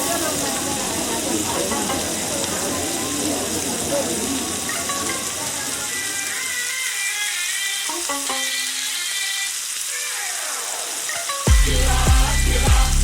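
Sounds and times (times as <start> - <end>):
faint music: 0.0 - 13.0
food sizzling in hot oil: 0.0 - 13.0.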